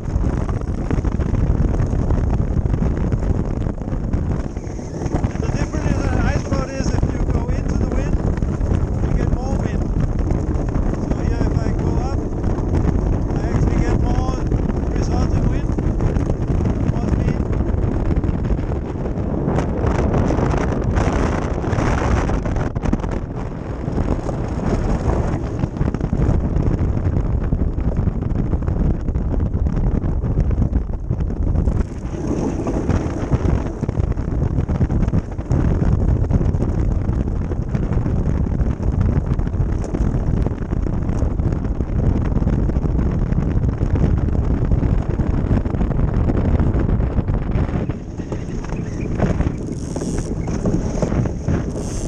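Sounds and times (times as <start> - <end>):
runners rumbling on ice: 0.0 - 52.0
wind rushing over microphone: 0.0 - 52.0.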